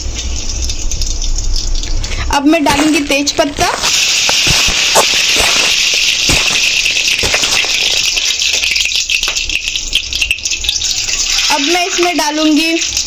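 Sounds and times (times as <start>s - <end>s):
oil popping: 0.0s - 12.2s
spices sizzling in hot oil: 0.0s - 13.0s.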